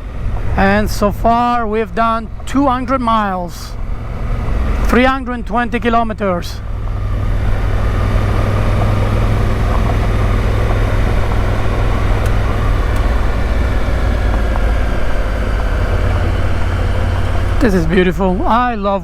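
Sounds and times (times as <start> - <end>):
motorcycle engine rumbling: 0.0 - 19.0
road noise: 0.0 - 19.0
rushing wind: 0.0 - 19.0.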